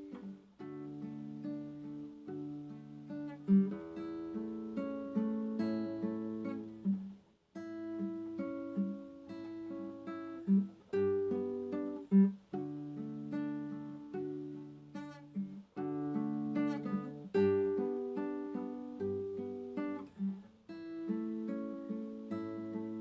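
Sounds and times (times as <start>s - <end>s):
acoustic guitar plucked chords: 0.0s - 23.0s.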